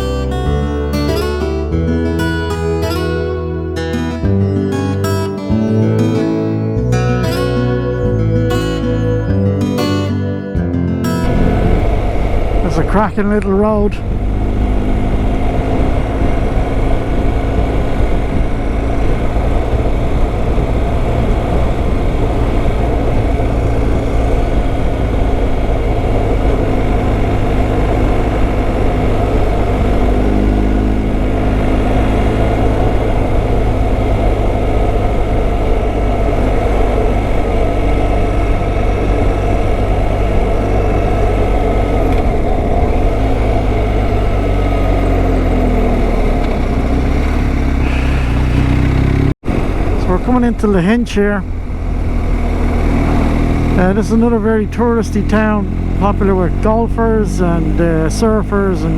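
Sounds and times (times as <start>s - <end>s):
motorcycle engine running: 11.1s - 58.9s.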